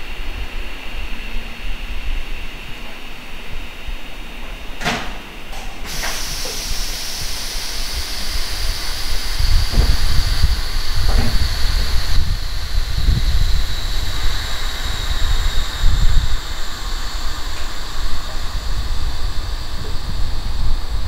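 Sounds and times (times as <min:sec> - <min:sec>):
compressed air hissing: 0:00.0 - 0:21.0.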